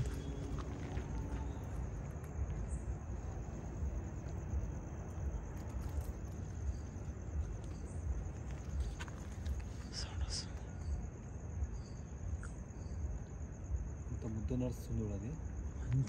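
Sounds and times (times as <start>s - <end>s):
crickets trilling: 0.0s - 16.0s
low rumbling background noise: 0.0s - 16.0s.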